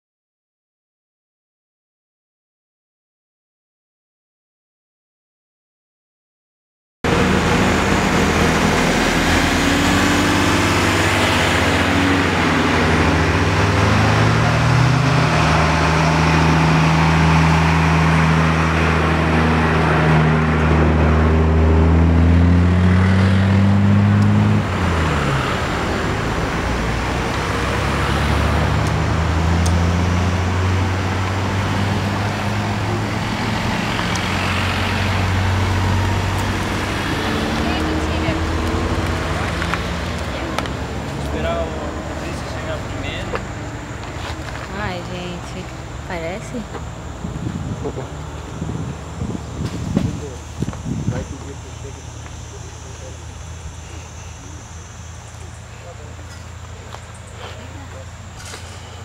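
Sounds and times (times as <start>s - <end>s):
low vehicle engine drone: 7.0s - 59.0s
quieter engine drone: 7.1s - 59.0s.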